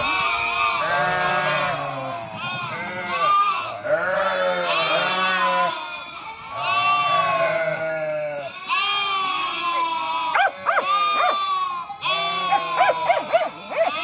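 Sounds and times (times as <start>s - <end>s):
sheep bleating: 0.0s - 14.0s.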